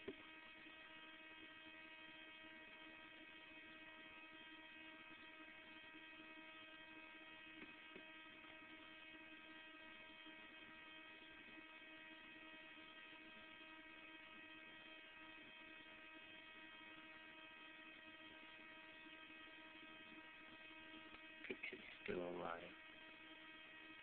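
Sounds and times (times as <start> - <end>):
faint electrical hum and whine: 0.0 - 24.0.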